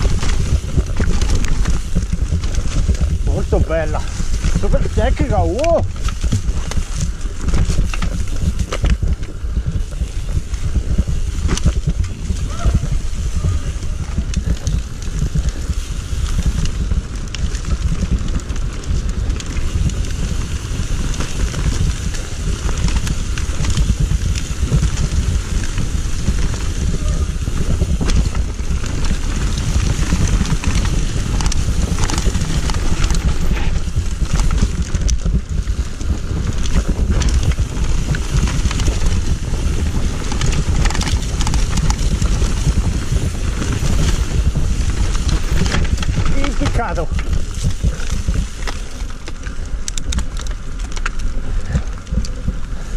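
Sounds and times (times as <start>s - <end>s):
bike rattling over bumps: 0.0s - 52.9s
bike tyres on dirt: 0.0s - 52.9s
wind rumble on microphone: 0.0s - 52.9s.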